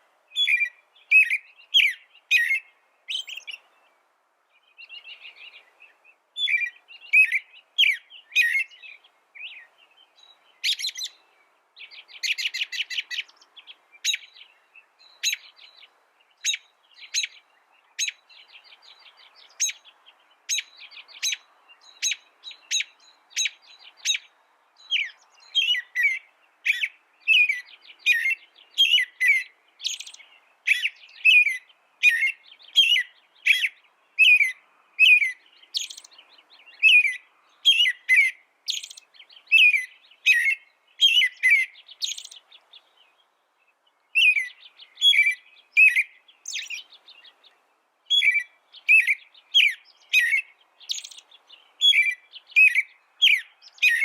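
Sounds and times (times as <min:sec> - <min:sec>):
finch singing: 0:00.3 - 0:03.9, 0:04.5 - 0:54.0.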